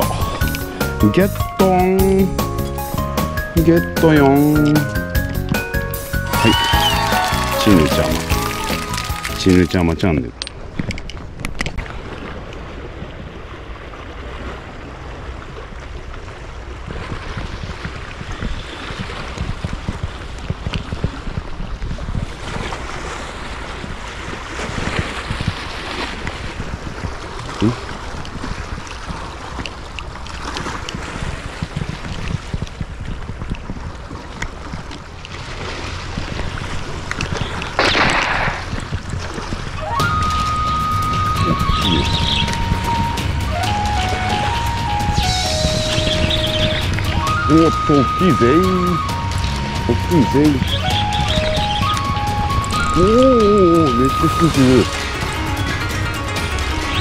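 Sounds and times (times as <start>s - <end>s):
sea waves washing against rocks: 2.9s - 57.0s
wind buffeting microphone: 8.1s - 57.0s.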